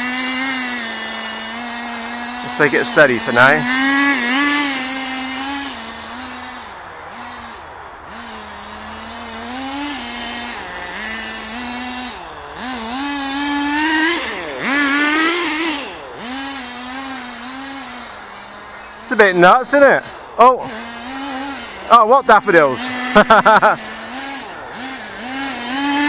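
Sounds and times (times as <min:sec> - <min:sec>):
rc car engine revving: 0:00.0 - 0:26.0.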